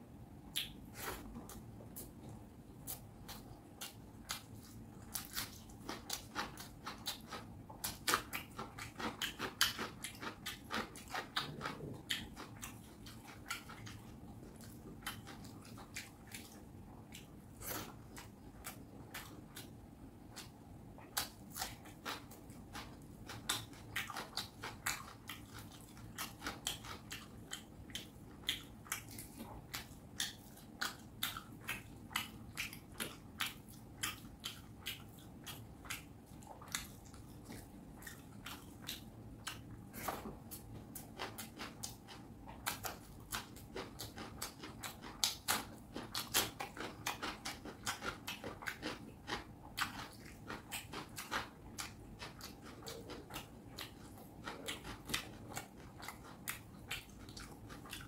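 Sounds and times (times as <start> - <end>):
person chewing close up: 0.5 - 58.0.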